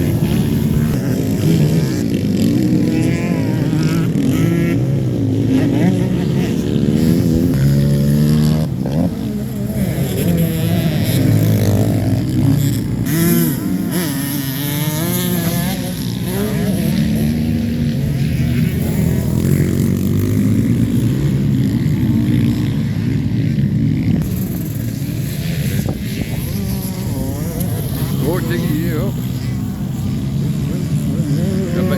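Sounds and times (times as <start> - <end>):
motocross bikes revving: 0.0 - 31.9.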